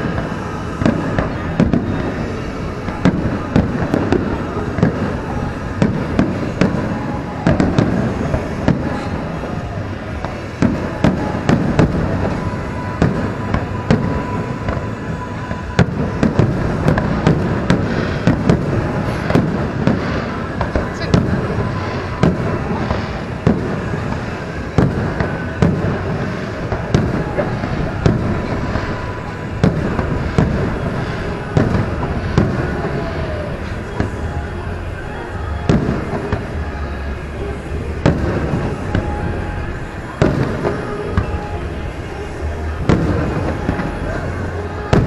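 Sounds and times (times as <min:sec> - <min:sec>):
constant rumble: 0:00.0 - 0:45.0.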